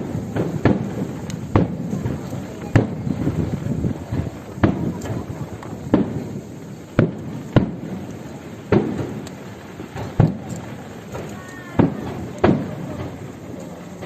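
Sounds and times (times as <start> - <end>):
fireworks shells bursting: 0.0 - 14.0
murmuring crowd: 0.0 - 14.0.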